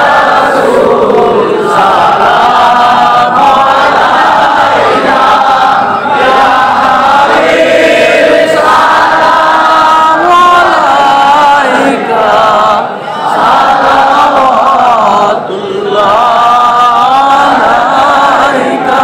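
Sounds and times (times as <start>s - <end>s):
men chanting together: 0.0s - 19.0s.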